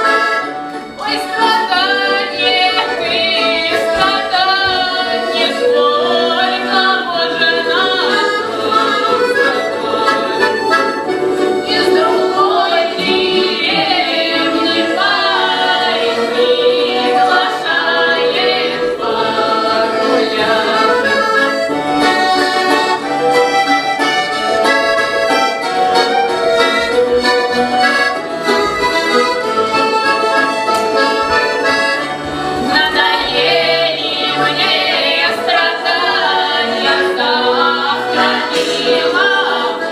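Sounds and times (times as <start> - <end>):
accordion playing: 0.0 - 39.9
women singing folk song: 0.0 - 39.9.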